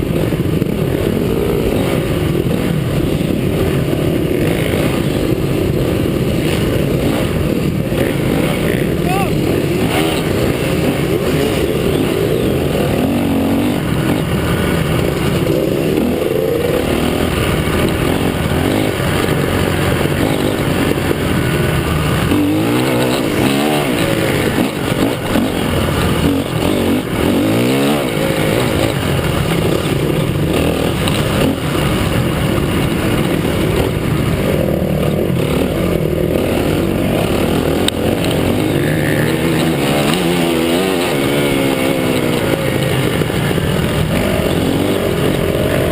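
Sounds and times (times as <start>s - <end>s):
motocross bikes revving: 0.0s - 45.9s.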